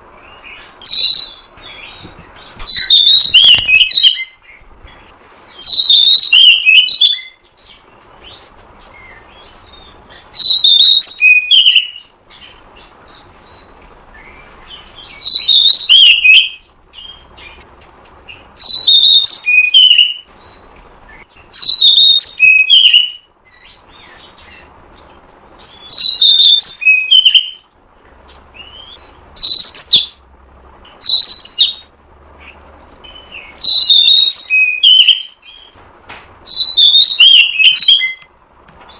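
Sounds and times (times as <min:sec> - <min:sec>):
bird song whistled notes: 0:00.2 - 0:27.7, 0:28.3 - 0:30.2, 0:30.8 - 0:35.8, 0:36.4 - 0:38.3.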